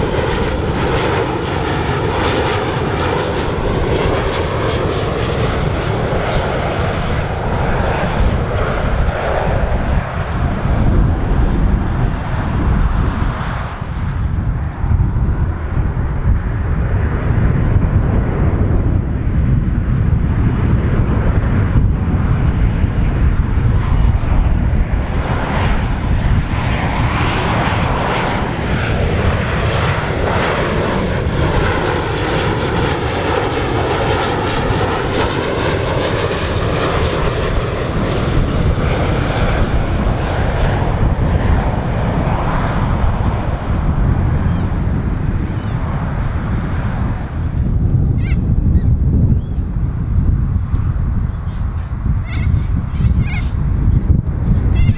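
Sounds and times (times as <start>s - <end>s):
jet airliner passing overhead: 0.0s - 54.9s.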